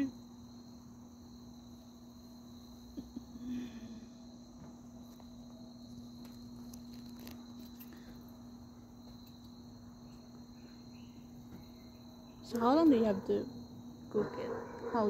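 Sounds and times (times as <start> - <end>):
crickets trilling: 0.0 - 15.0
low steady hum: 0.0 - 15.0.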